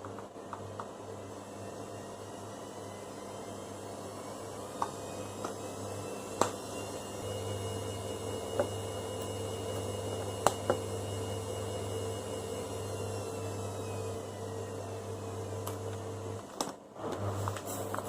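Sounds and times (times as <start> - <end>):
low machine hum: 0.0 - 16.4.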